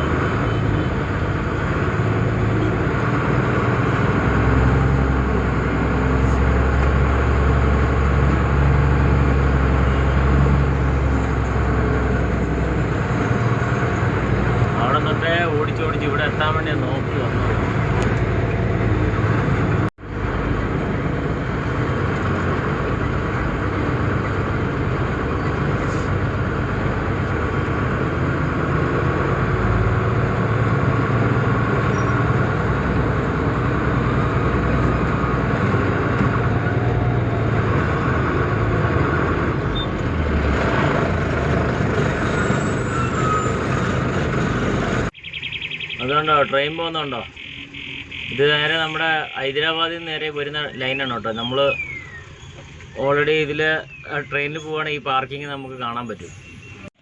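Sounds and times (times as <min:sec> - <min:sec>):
diesel truck engine hum: 0:00.0 - 0:57.0
road noise: 0:00.0 - 0:57.0.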